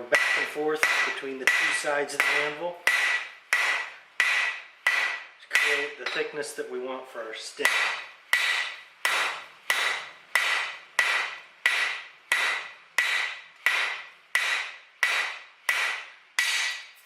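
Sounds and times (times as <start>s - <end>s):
hammer striking steel on anvil: 0.0s - 6.4s, 7.6s - 17.0s.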